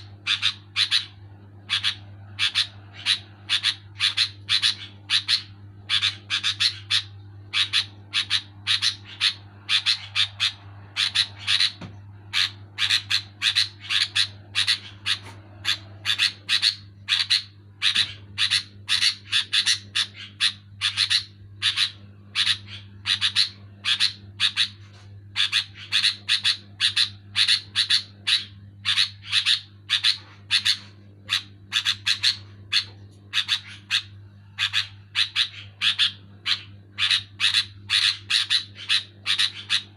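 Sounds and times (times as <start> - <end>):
bulbul calling: 0.0 - 24.8, 25.4 - 39.9.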